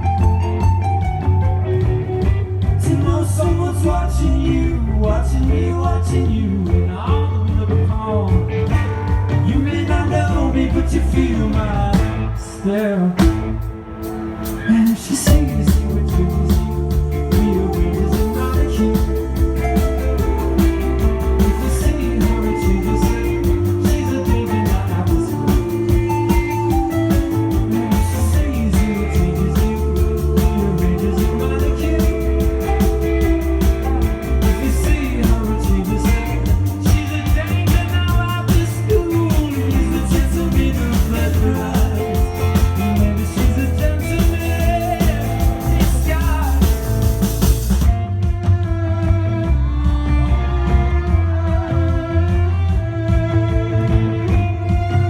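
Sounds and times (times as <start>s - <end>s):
rock band music: 0.0s - 55.0s
sliding pitched guitar lines: 0.0s - 55.0s.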